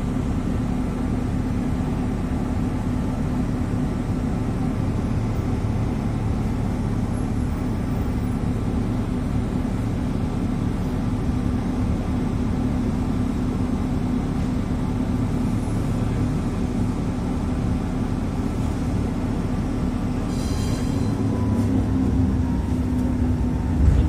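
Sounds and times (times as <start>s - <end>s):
tram electrical hum: 0.0s - 24.0s.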